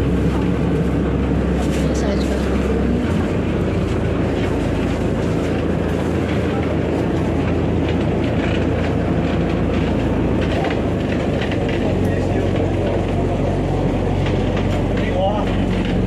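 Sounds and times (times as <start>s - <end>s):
boat engine throbbing rumble: 0.0s - 16.0s.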